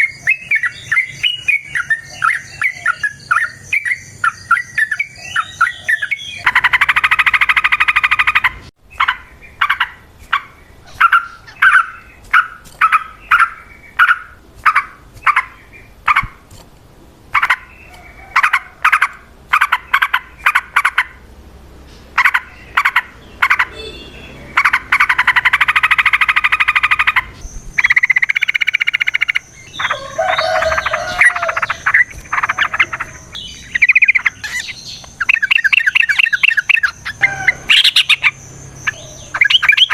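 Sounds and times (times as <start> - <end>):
bulbul chattering song: 0.0 - 16.3, 22.1 - 39.9
fast rattling bird trills: 0.0 - 16.3, 22.2 - 39.9.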